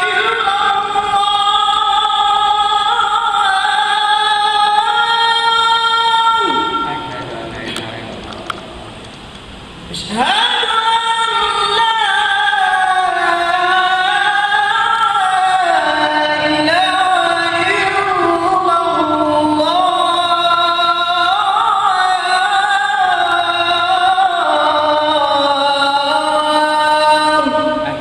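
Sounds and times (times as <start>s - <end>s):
man chanting call to prayer: 0.0s - 8.2s, 10.0s - 28.0s.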